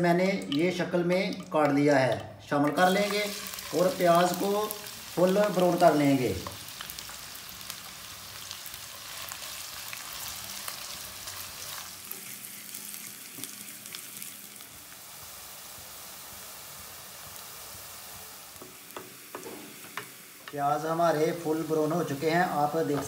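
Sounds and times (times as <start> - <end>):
onions sizzling in hot oil: 2.8 - 23.0.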